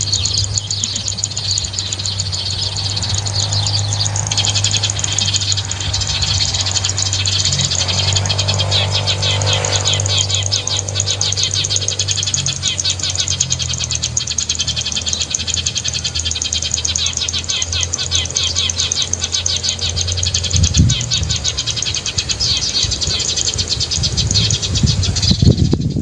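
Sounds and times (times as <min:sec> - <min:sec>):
sparrow chirping: 0:00.0 - 0:26.0
steady low hum: 0:00.0 - 0:26.0.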